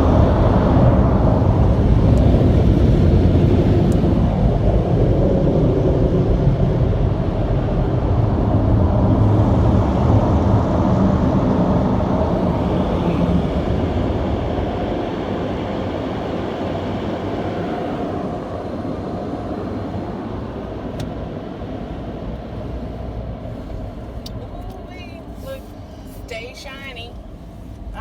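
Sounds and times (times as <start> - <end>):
car wash machinery rushing: 0.0 - 28.0.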